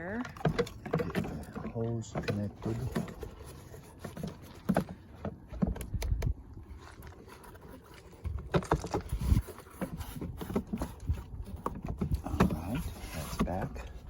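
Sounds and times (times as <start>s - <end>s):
generator parts clicking and knocking: 0.0s - 14.0s.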